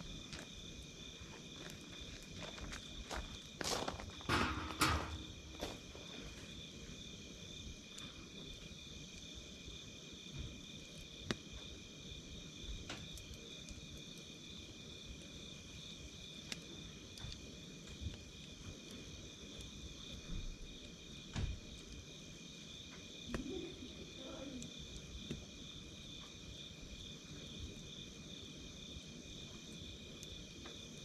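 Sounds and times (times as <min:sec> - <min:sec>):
campfire popping: 0:00.0 - 0:31.0
insect high steady tone: 0:00.0 - 0:31.0.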